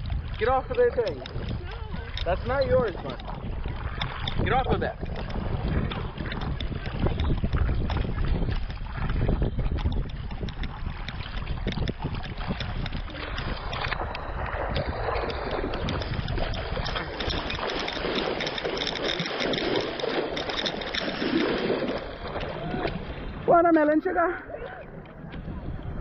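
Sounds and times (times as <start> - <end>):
water splashing and sloshing: 0.0 - 26.0
wind buffeting microphone: 0.0 - 26.0.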